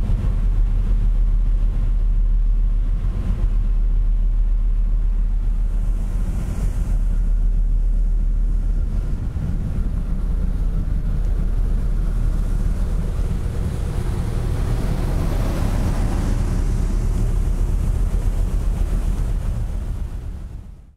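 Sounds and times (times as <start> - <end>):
diesel engine exhaust rumble: 0.0 - 20.9
wind on microphone: 0.0 - 20.9.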